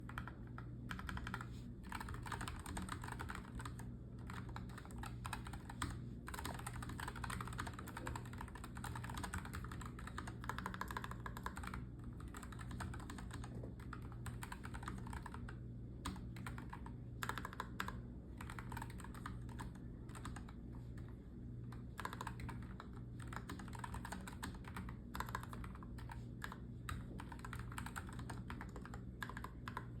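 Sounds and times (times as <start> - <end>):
mechanical keyboard typing: 0.0 - 21.1, 21.7 - 30.0.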